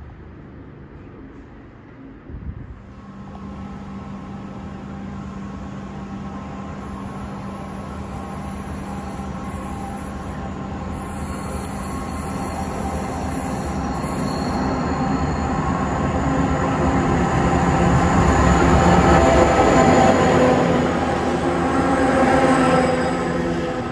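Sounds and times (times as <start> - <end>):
diesel locomotive engines droning: 0.0 - 23.9.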